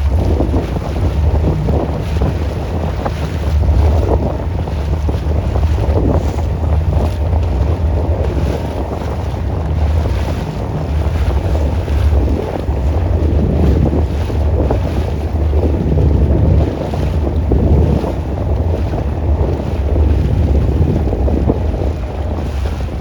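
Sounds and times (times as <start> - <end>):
boat running through water: 0.0 - 23.0
wind buffeting microphone: 0.0 - 23.0.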